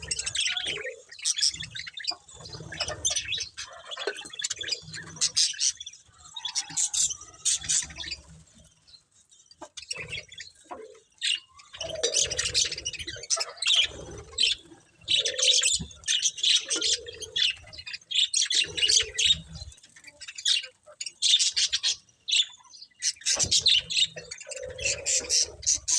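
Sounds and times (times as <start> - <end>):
budgerigars chirping: 0.0 - 8.3, 9.5 - 25.9.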